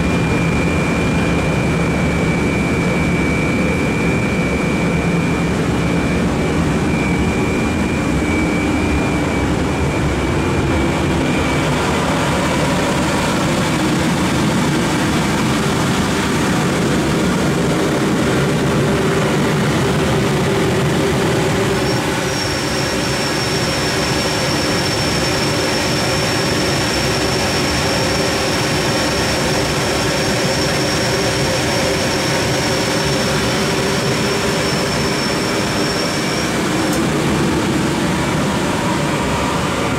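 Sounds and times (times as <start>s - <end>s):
machinery roar: 0.0s - 39.9s
thin high whine: 0.0s - 39.9s.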